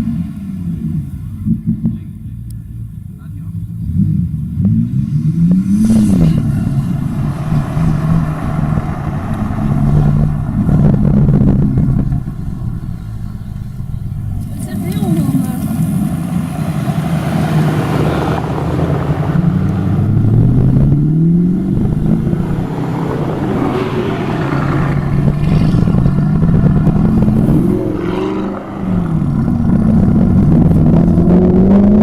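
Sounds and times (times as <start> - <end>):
car engines accelerating hard: 0.0 - 32.0.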